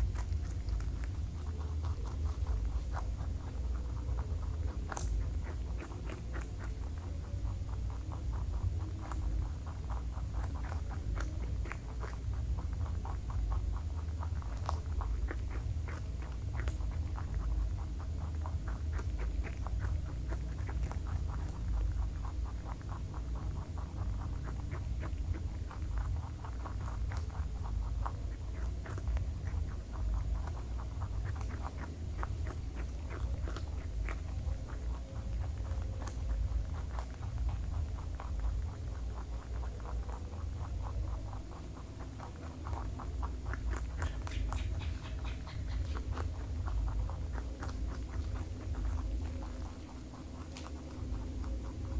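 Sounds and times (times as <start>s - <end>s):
rabbits crunching carrot: 0.0s - 51.9s.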